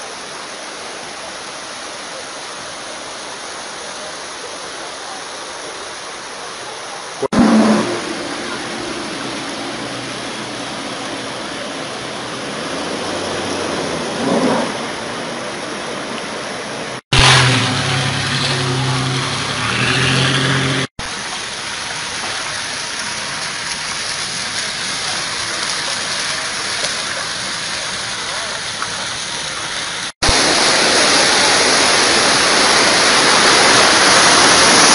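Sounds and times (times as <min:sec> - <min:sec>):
floodwater rushing and splashing: 0:00.0 - 0:34.9.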